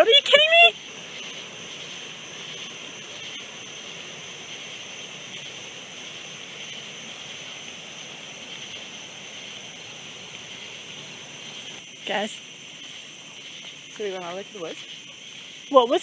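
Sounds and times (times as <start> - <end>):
crickets chirring: 0.0 - 16.0
faint background hiss: 0.0 - 16.0.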